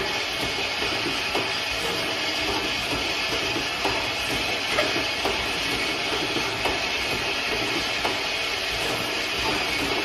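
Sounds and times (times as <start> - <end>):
machine hissing: 0.0 - 10.0.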